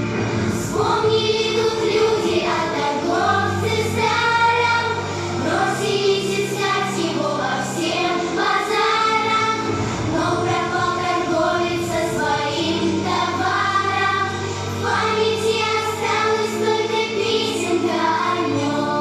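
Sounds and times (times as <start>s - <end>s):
backing track with bass notes: 0.0s - 19.0s
voices singing in unison: 0.5s - 19.0s.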